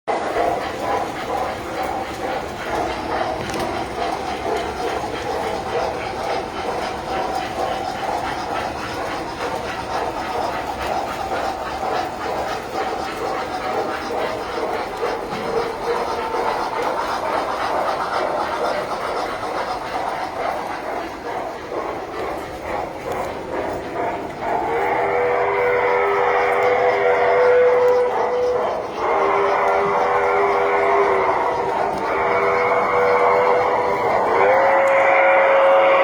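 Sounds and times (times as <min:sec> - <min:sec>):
toy trains running on metal track: 0:00.1 - 0:36.0.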